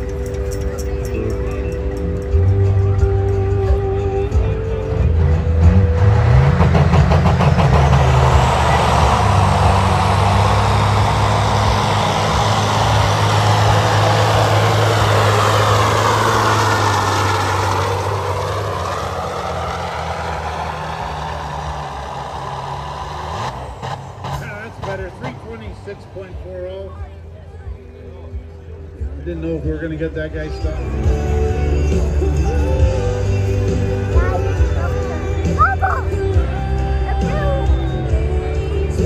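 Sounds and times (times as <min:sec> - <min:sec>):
diesel truck engine under load: 0:00.0 - 0:39.0.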